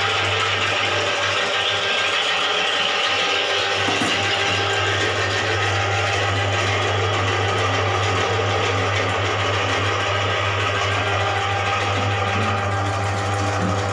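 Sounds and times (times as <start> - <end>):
drain cleaning machine motor hum: 0.0 - 13.9.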